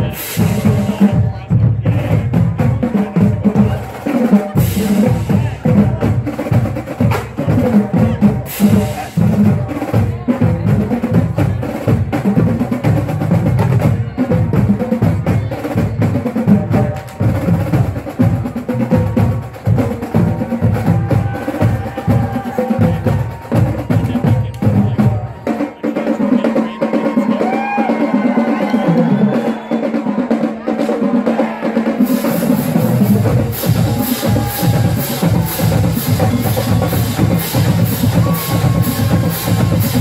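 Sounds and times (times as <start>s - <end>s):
bass drum: 0.0s - 25.4s, 32.1s - 40.0s
snare drums: 0.0s - 40.0s.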